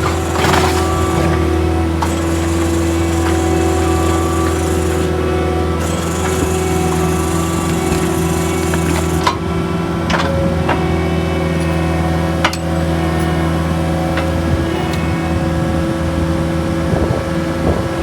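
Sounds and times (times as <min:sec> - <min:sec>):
auger engine running: 0:00.0 - 0:18.0.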